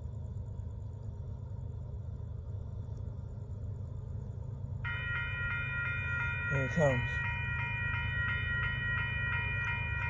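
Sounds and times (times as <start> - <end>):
crickets chirping: 0.0 - 10.0
distant freight train rumble: 0.0 - 10.0.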